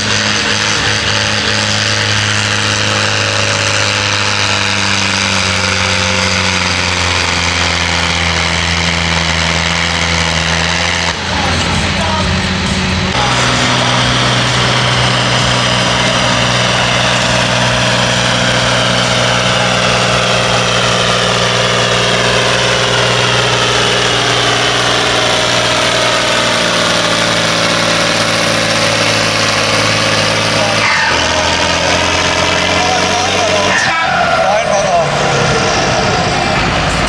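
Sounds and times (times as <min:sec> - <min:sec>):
tractor engine running under load: 0:00.0 - 0:37.0.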